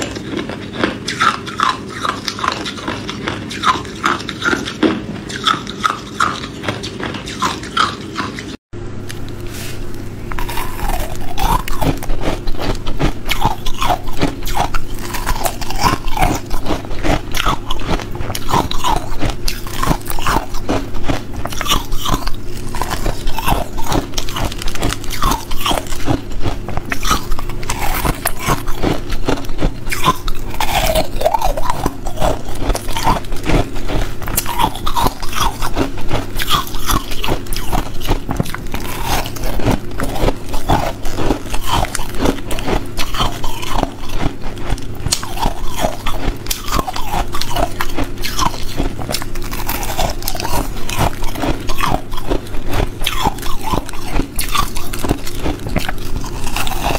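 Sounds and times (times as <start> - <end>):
ice crunching between teeth: 0.0 - 56.9.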